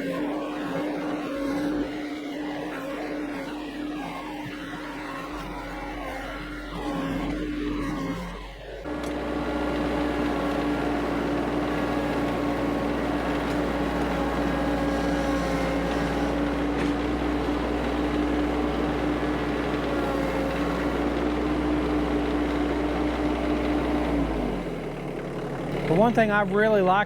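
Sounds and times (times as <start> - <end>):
tractor diesel engine running: 4.8 - 27.0.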